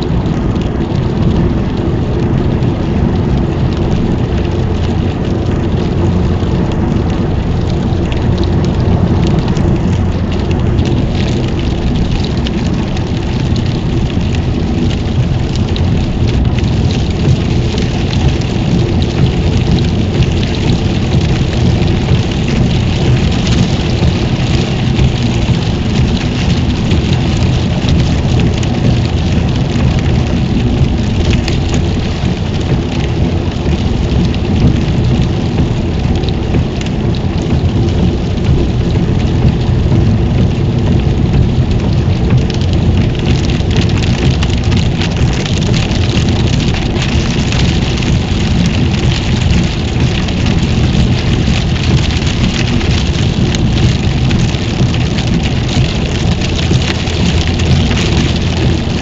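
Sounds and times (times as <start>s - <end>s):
rain hissing on car: 0.0s - 59.0s
tyres rumbling on wet road: 0.0s - 59.0s.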